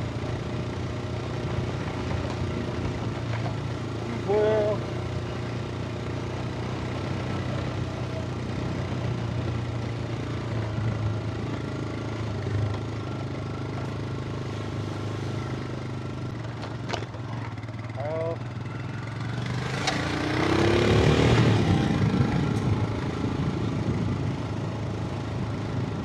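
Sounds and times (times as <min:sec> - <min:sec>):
motorcycle engine running steadily: 0:00.0 - 0:26.0.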